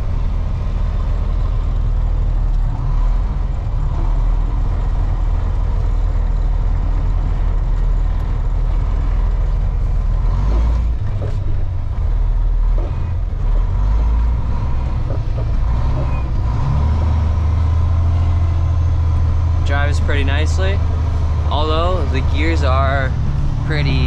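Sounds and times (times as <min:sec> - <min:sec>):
truck diesel engine droning: 0:00.0 - 0:24.0.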